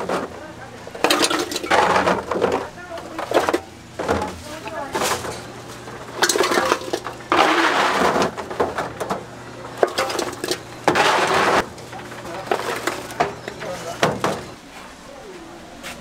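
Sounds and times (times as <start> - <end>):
hard pieces clattering in metal bowl: 0.9 - 14.6.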